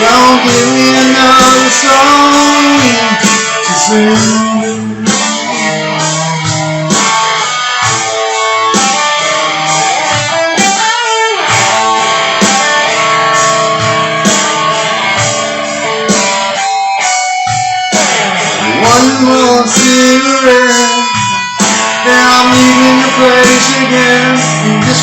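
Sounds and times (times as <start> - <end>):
rock guitars playing chords: 0.0 - 25.0.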